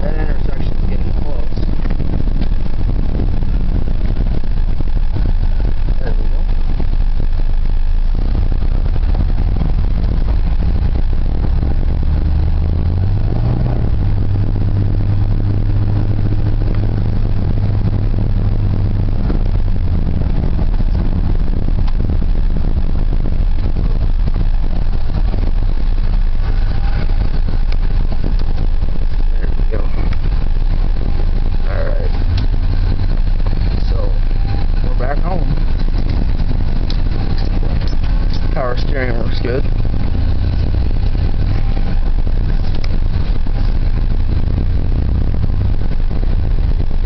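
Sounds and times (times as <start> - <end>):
low rumble: 0.0 - 47.0
truck engine running: 0.0 - 47.0.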